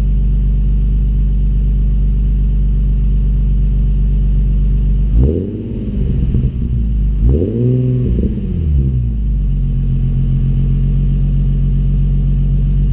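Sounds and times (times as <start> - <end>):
car engine revving and idling: 0.0 - 12.9.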